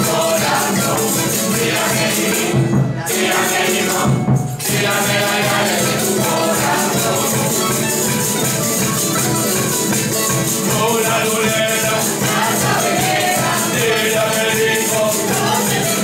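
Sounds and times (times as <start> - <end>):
live folk music: 0.0 - 16.0
shaken percussion rattle: 0.0 - 16.0.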